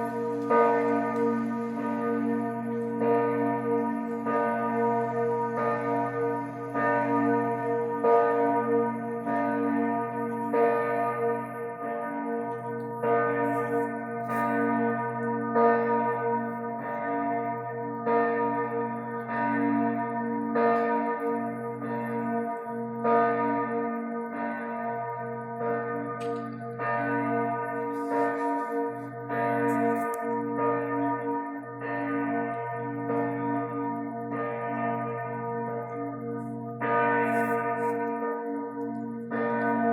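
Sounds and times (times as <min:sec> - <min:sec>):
church bell strikes: 0:00.0 - 0:39.9
hum of lower bells: 0:00.0 - 0:39.9.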